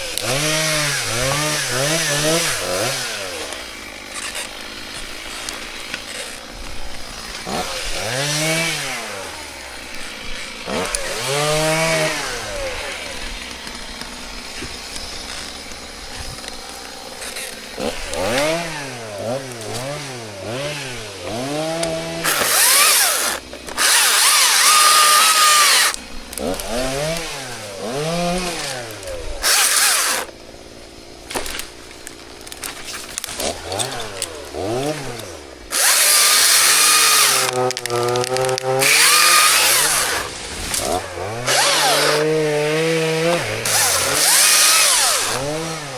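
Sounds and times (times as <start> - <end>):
chainsaw cutting into wood: 0.0 - 45.9
chainsaw engine revving: 0.0 - 45.9.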